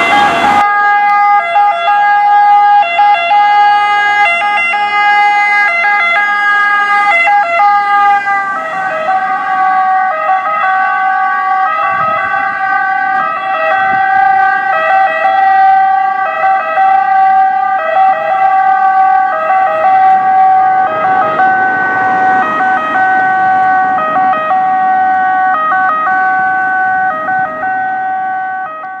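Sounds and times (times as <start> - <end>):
two-tone ambulance siren: 0.0 - 29.0.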